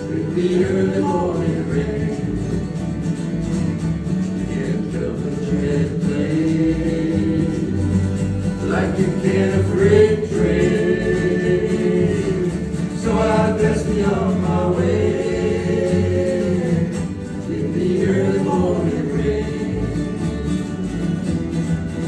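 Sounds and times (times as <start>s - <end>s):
voices singing in harmony: 0.0s - 21.1s
strummed acoustic guitar: 0.0s - 22.0s.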